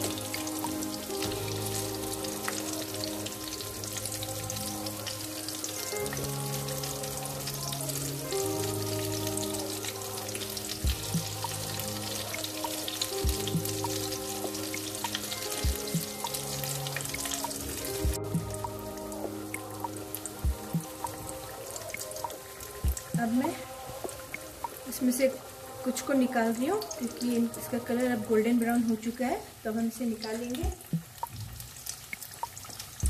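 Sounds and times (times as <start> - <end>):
background music with held notes: 0.0 - 31.6
deep-frying sizzle: 0.0 - 33.0.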